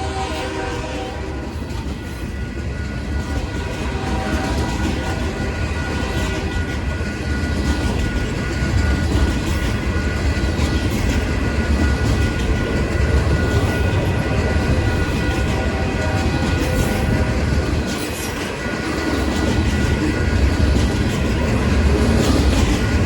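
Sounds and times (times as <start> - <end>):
train rumbling on rails: 0.0 - 23.0
train wheels clicking: 0.0 - 23.0.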